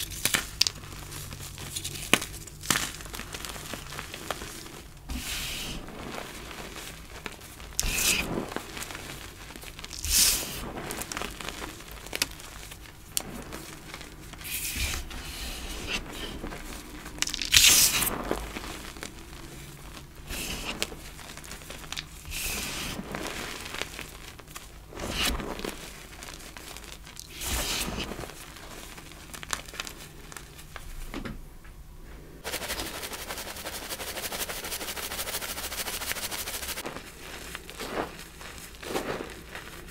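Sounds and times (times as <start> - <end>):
hands crushing chalk blocks: 0.0 - 28.3, 32.4 - 39.9
chalk patter through sieve: 0.0 - 29.3, 32.4 - 39.9.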